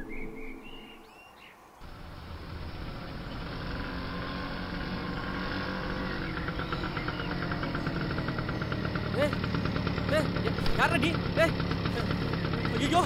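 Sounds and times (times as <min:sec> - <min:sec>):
fast rattle in engine: 0:01.8 - 0:13.0
motor scooter engine running: 0:01.8 - 0:13.0.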